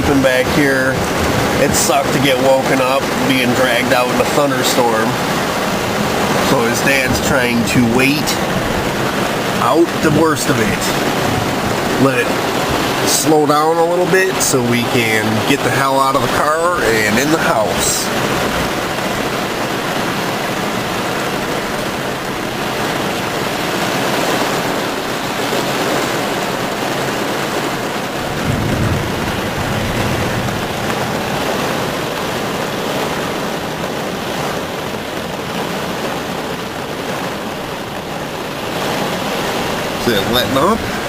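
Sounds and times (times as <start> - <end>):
heavy rain on a car: 0.0 - 41.0
thunder rumble: 0.0 - 41.0.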